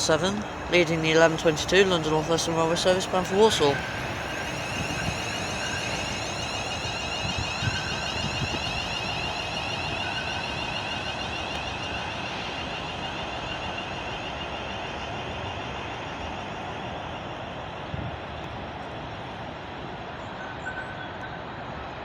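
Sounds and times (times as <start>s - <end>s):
electric train whine rising: 0.0s - 21.8s.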